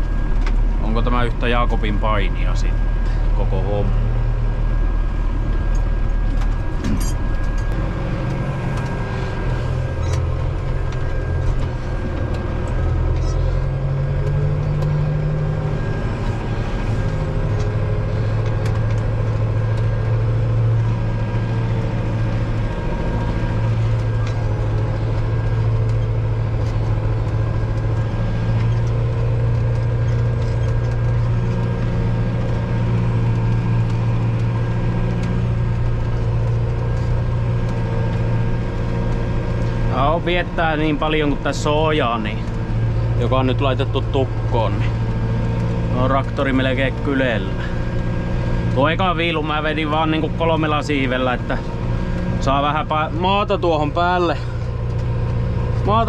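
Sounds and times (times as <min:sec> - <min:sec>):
faint constant whine: 0:00.0 - 0:56.0
tractor diesel engine droning: 0:00.0 - 0:56.0.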